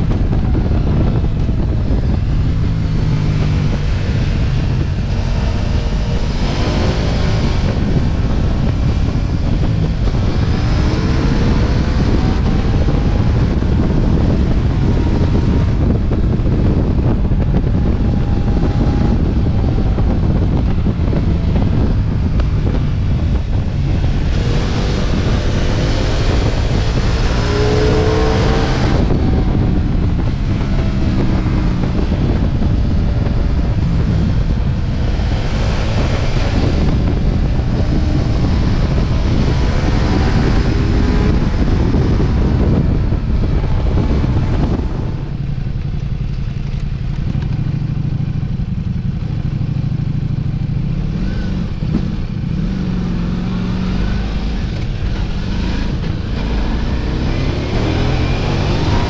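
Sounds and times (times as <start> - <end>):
motorcycle engine accelerating: 0.0 - 59.0
wind buffeting on microphone: 0.0 - 59.0.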